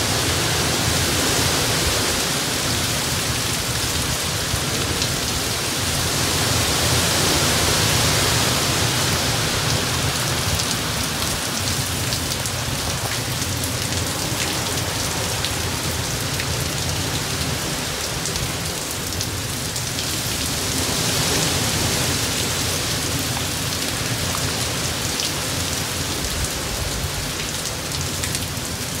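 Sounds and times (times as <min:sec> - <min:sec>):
heavy rain pouring: 0:00.0 - 0:29.0
wind gusts: 0:00.0 - 0:29.0.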